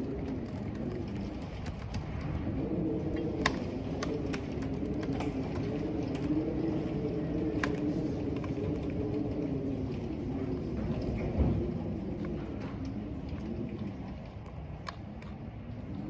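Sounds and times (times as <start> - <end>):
rumble of wind and rain: 0.0 - 16.0
wind moaning through corridor: 0.0 - 16.0.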